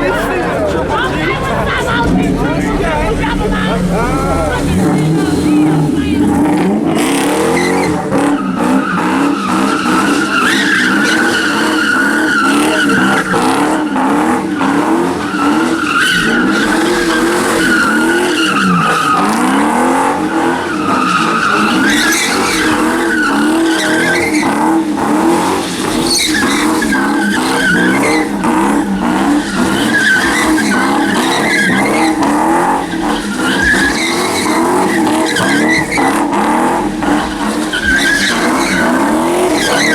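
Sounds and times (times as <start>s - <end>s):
car engine revving: 0.0s - 39.9s
tyres squealing: 0.0s - 39.9s.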